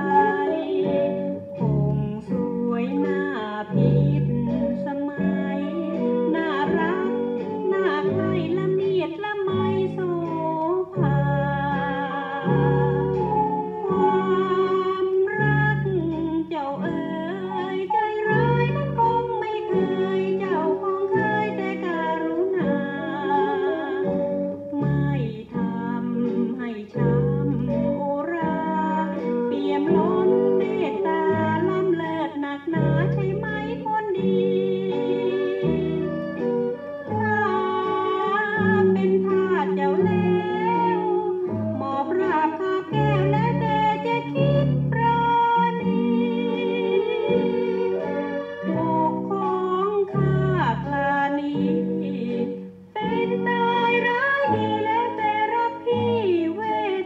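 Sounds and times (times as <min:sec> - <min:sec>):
instrumental accompaniment: 0:00.0 - 0:57.0
woman singing a pop song: 0:00.0 - 0:57.0.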